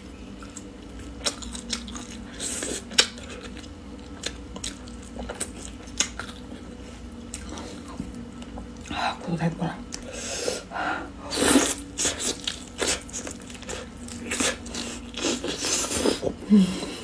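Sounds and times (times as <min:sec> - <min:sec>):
faint steady hum: 0:00.0 - 0:17.0
person chewing meat: 0:00.1 - 0:09.0, 0:11.3 - 0:17.0.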